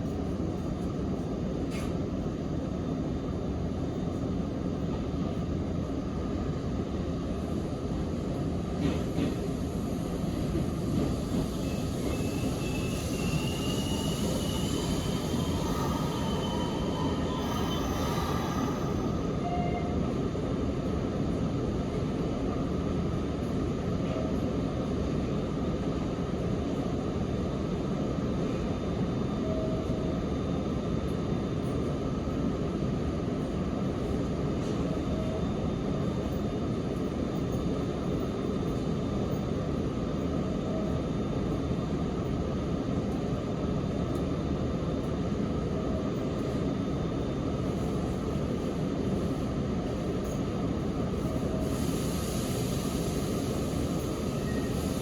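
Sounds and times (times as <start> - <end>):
train wheels rumbling on rails: 0.0 - 29.1, 31.0 - 55.0.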